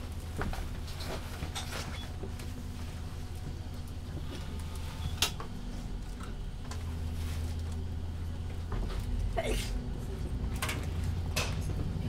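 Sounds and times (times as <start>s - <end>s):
diesel railcar engine hum: 0.0s - 12.0s.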